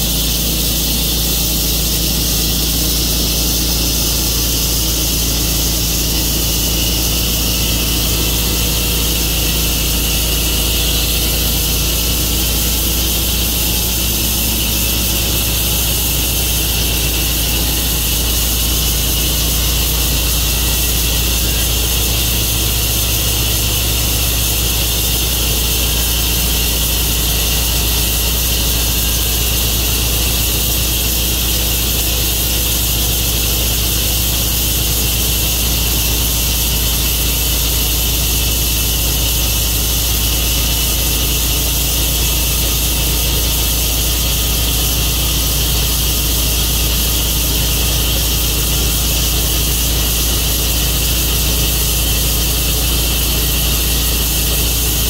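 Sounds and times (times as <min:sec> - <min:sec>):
saw hissing through log: 0:00.0 - 0:55.0
sawmill engine drone: 0:00.0 - 0:55.0.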